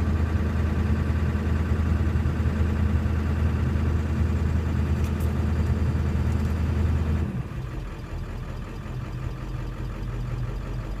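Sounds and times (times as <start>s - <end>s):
engine rough idle: 0.0s - 11.0s.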